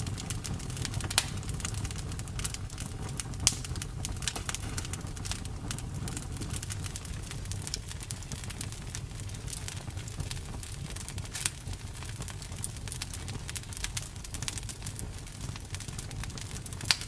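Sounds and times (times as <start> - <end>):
campfire pops and snaps: 0.0 - 17.0
low rumble of burning fire: 0.0 - 17.0.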